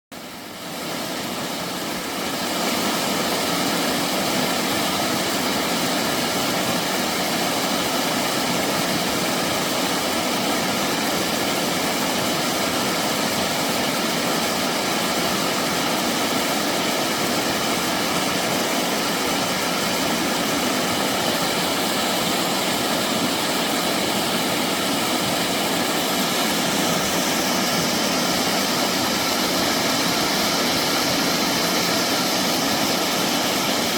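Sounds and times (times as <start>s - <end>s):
stream flowing over rocks: 0.1s - 33.9s.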